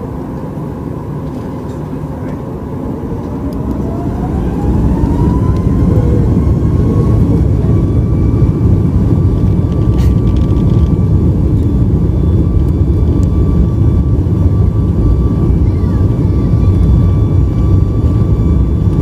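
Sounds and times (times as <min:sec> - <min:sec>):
jet engine rumble from cabin: 0:00.0 - 0:19.0
jet engine whine: 0:00.0 - 0:19.0.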